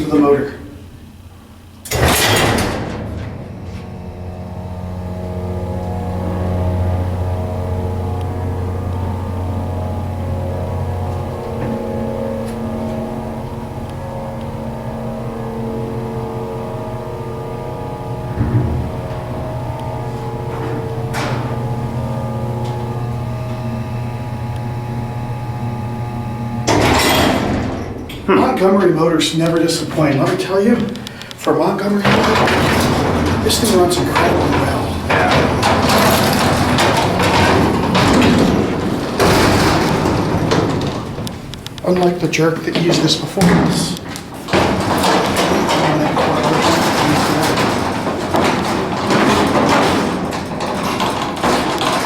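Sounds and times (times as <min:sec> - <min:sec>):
elevator motor humming: 0:00.0 - 0:52.0
rushing rattling noise: 0:00.0 - 0:52.0
loud noisy burst: 0:01.8 - 0:52.0.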